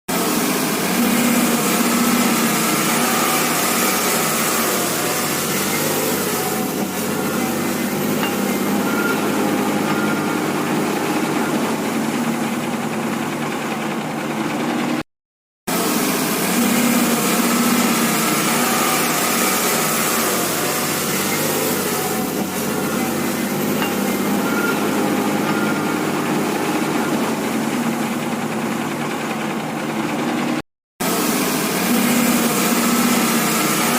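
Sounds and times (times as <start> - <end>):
engine running: 0.1 - 15.1, 15.7 - 33.9
small motor buzzing hum: 0.2 - 12.4, 15.8 - 28.1, 31.1 - 33.9.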